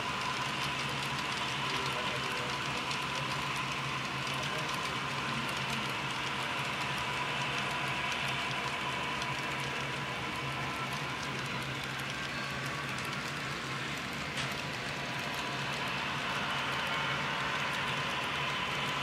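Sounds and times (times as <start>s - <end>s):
model train wheels clicking on rails: 0.0s - 19.0s
steady hum: 2.7s - 19.0s.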